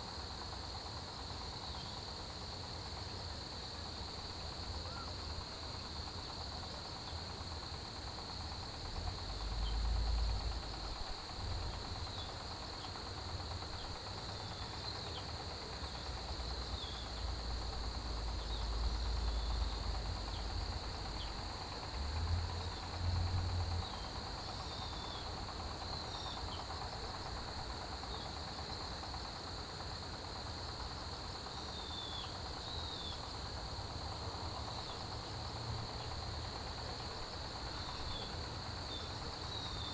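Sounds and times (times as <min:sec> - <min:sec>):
pulsing insect call: 0:00.0 - 0:06.5, 0:08.0 - 0:39.9
cricket trill: 0:00.0 - 0:39.9.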